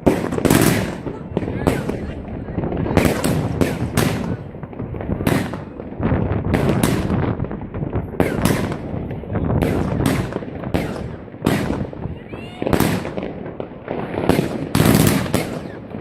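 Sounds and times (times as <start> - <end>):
distant explosions rumbling: 0.0 - 16.0
fireworks cracking and banging: 0.0 - 16.0.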